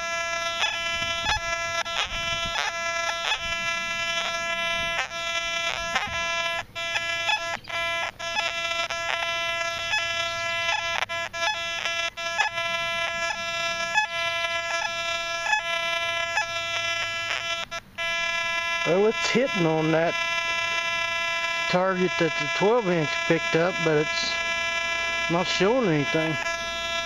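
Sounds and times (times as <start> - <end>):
metal detector buzzing tone: 0.0 - 27.0.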